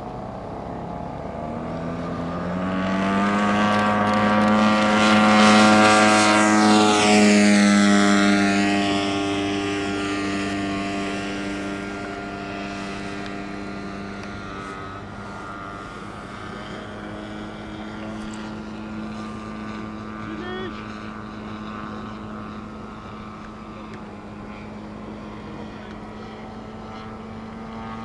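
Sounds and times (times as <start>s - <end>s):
model airplane engine and propeller: 0.0s - 28.0s.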